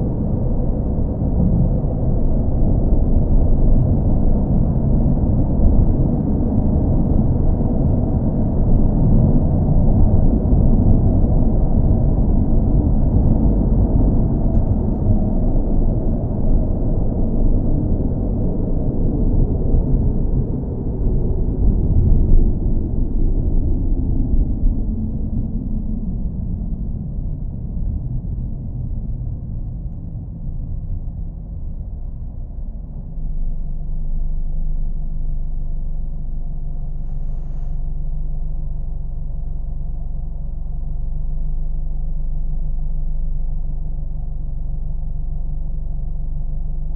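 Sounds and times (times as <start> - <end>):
car engine rumble: 0.0 - 46.9.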